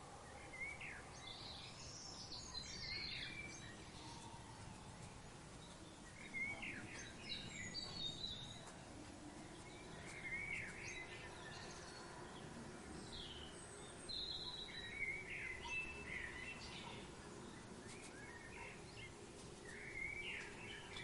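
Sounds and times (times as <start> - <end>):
birds chirping: 0.0 - 21.0
low background hiss: 0.0 - 21.0.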